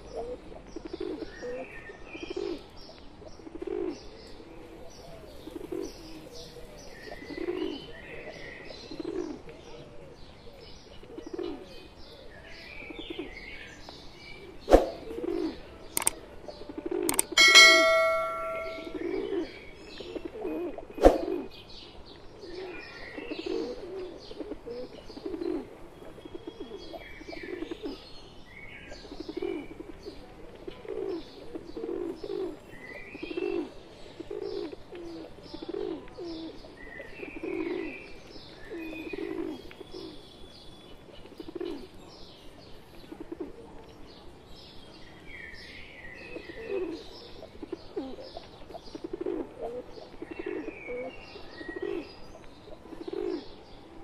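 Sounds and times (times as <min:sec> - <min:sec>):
pigeons cooing: 0:00.0 - 0:19.2, 0:22.4 - 0:28.2, 0:28.9 - 0:40.3, 0:41.3 - 0:42.0, 0:46.2 - 0:53.9
small birds chirping: 0:00.0 - 0:54.0.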